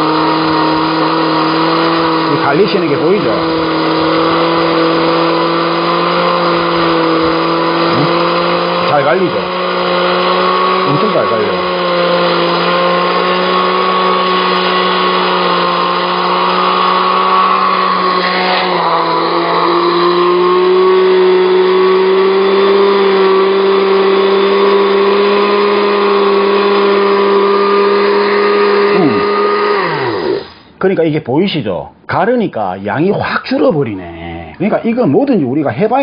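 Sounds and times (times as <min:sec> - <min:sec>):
blender motor grinding: 0:00.0 - 0:30.8.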